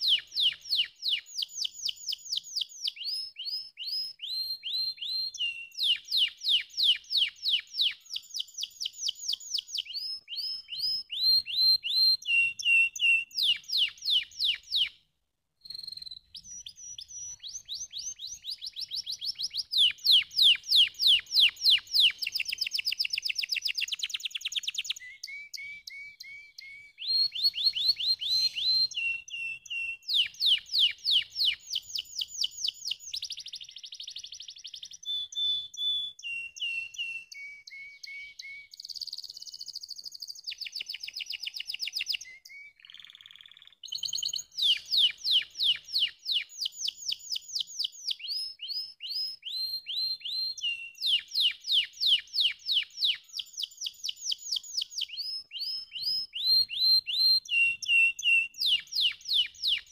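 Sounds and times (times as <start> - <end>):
canary singing trills: 0.0 - 15.0, 15.6 - 59.9.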